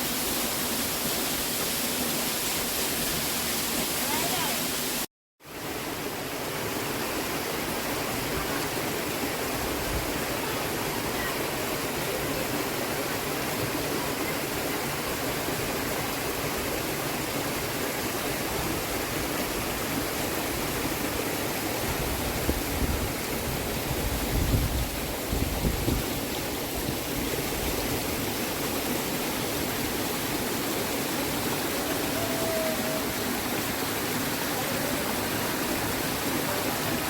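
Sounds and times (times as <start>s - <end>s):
flowing water: 0.0s - 37.0s.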